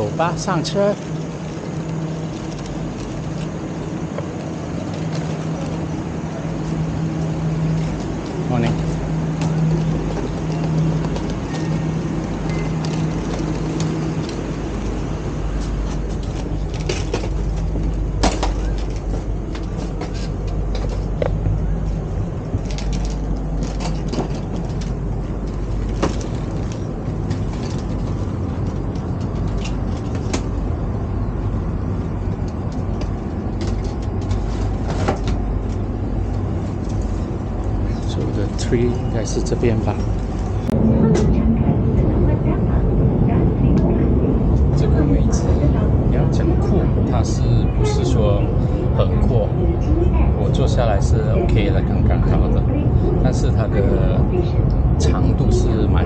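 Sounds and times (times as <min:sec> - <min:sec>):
electric train rumble and hum: 0:00.0 - 0:56.0.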